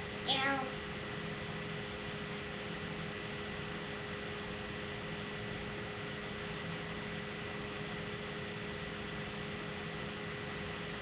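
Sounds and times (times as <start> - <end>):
faint electrical hum: 0.0 - 11.0
microphone hiss: 0.0 - 11.0.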